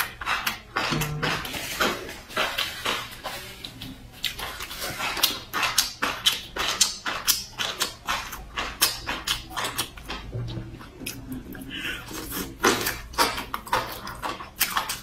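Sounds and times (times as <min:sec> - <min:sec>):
lip smacks: 0:00.0 - 0:15.0.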